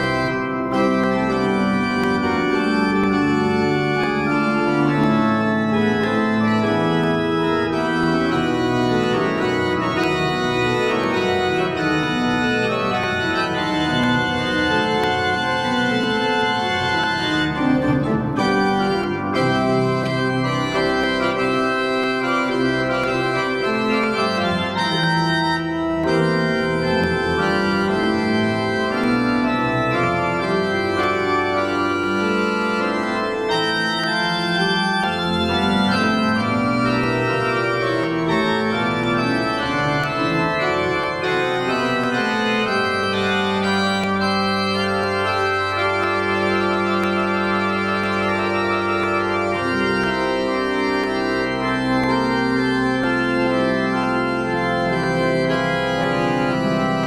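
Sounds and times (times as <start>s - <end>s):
organ playing chords: 0.0s - 57.0s.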